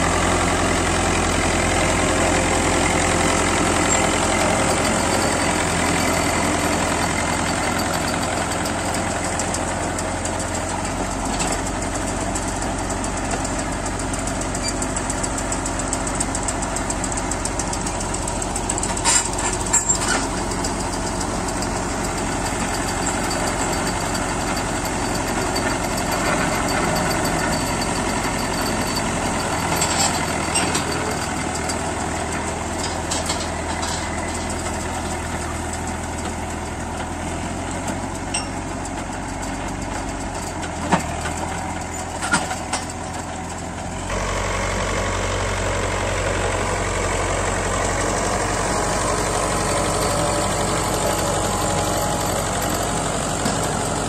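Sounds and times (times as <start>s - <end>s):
machinery clanking: 0.0s - 45.0s, 45.6s - 54.0s
tractor engine running: 0.0s - 54.0s.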